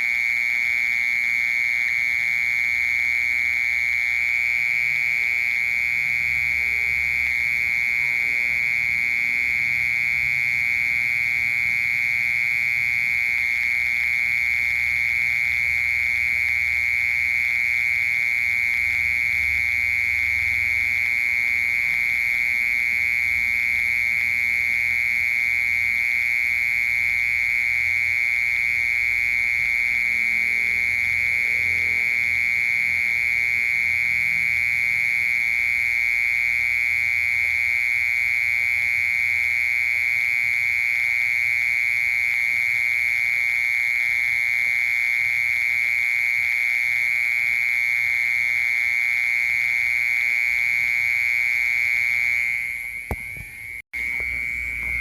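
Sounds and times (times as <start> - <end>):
cricket trilling: 0.0 - 55.0.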